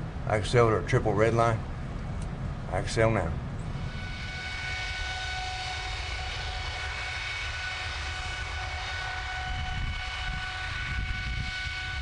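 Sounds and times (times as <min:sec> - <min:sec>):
jet engine low rumble: 0:00.0 - 0:12.0
jet engine whining tones: 0:00.0 - 0:12.0.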